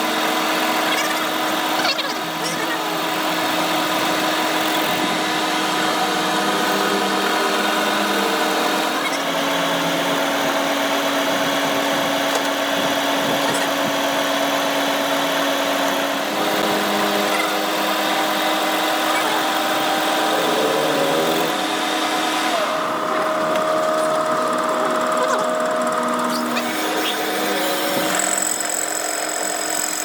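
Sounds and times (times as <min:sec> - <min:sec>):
power tool motor running: 0:00.0 - 0:30.0.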